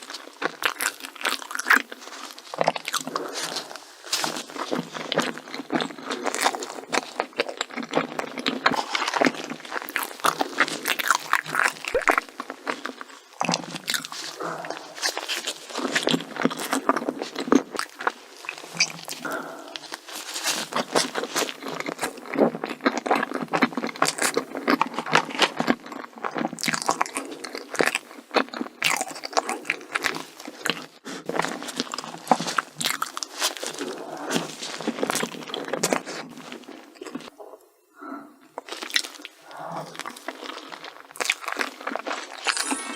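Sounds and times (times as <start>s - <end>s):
crunching and chewing food: 0.0s - 42.9s.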